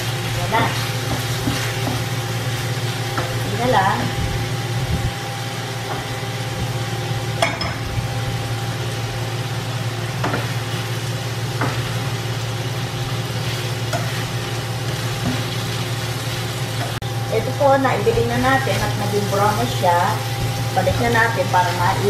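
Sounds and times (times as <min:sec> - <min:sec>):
chicken sizzling in oil: 0:00.0 - 0:22.0
steady low hum: 0:00.0 - 0:22.0.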